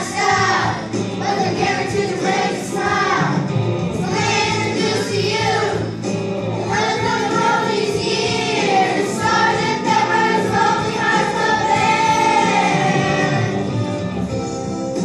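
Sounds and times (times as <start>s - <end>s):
children's choir singing: 0.0s - 6.0s, 6.6s - 13.7s.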